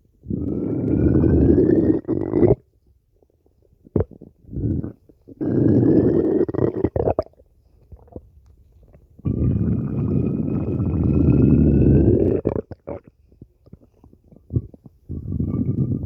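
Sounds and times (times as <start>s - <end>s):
stomach growling: 0.2s - 2.7s, 3.8s - 16.0s.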